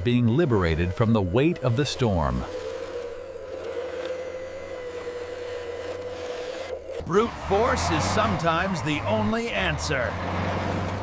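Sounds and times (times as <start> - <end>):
machine motor whining: 0.0 - 11.0.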